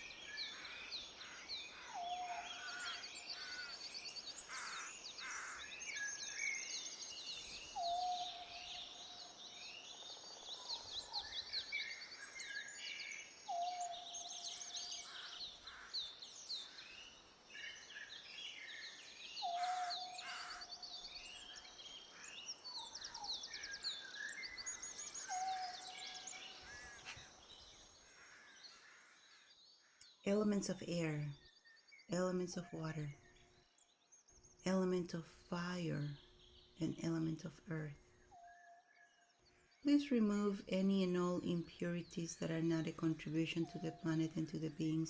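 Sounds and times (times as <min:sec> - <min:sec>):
small birds chirping and trilling: 0:00.0 - 0:45.0.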